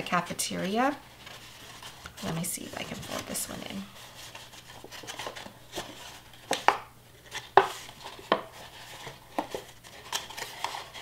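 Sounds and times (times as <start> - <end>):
papery rustling of card: 0.6 - 11.0.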